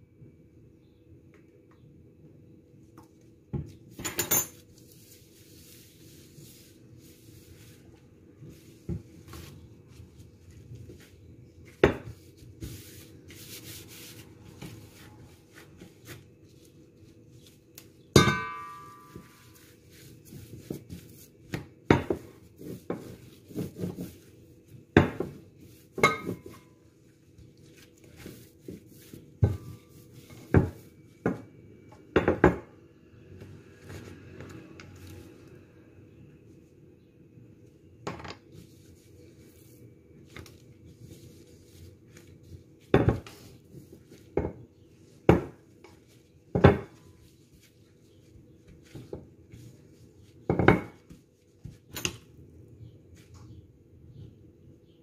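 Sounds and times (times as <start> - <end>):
rolling pin rolling dough: 3.4 - 32.7, 38.1 - 54.5.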